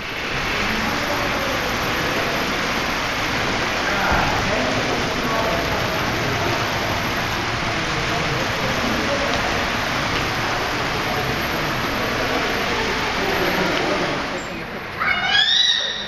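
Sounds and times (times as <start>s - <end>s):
crowd noise in a hall: 0.0s - 16.0s
indistinct voices: 0.0s - 16.0s.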